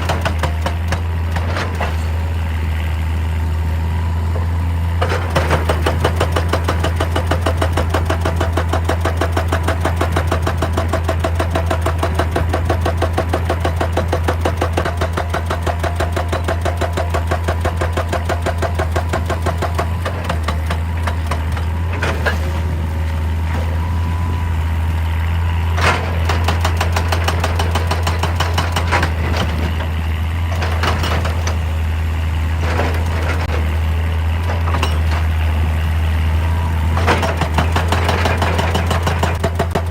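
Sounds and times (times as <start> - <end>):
hydraulic breaker hammering rock: 0.0 - 2.7, 4.2 - 24.8, 25.7 - 39.9
diesel engine running: 0.0 - 39.9.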